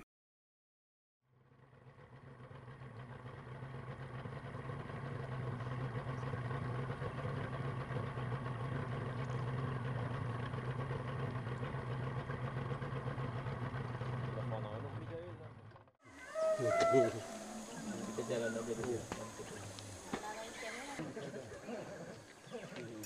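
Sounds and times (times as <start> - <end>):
engine running steadily: 1.3 - 15.9, 16.6 - 23.0.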